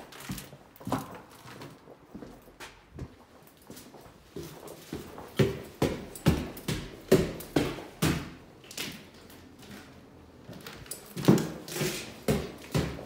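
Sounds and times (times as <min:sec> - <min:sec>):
footsteps echoing in empty room: 0:00.0 - 0:13.0.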